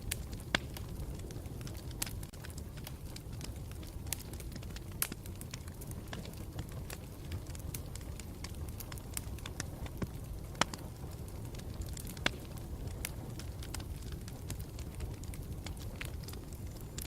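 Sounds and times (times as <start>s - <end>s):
campfire rumbling: 0.0s - 17.0s
fire crackling and popping: 0.0s - 17.0s.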